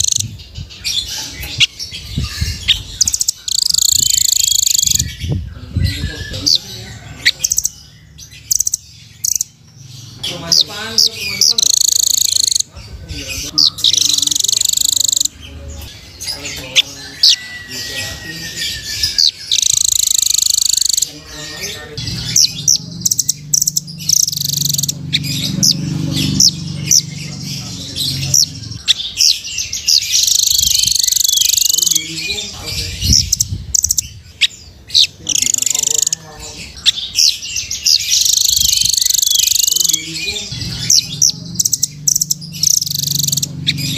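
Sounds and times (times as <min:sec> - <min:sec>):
bird chirping and trilling: 0:00.0 - 0:43.9.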